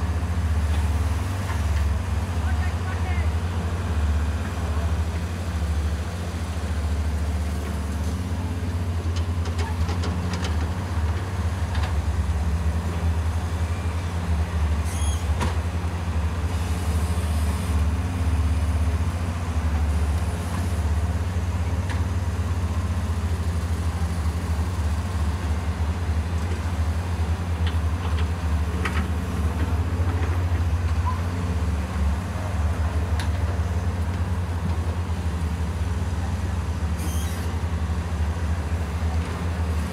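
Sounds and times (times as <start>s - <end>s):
excavator diesel engines droning: 0.0s - 39.9s.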